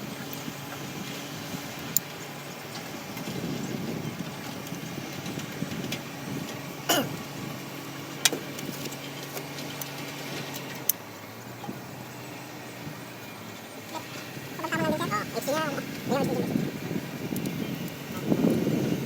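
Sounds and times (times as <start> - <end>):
diesel engine idling: 3.8 - 19.0.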